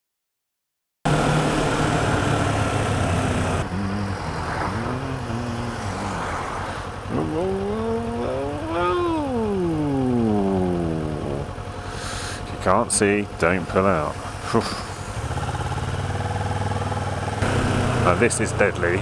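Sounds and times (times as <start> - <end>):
motorcycle engine revving: 1.1 - 19.0
road and wind noise: 1.1 - 19.0.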